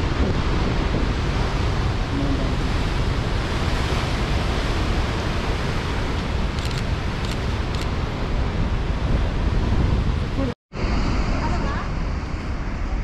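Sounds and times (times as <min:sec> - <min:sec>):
sea surf breaking on rocks: 0:00.0 - 0:13.0
wind buffeting microphone: 0:00.0 - 0:13.0.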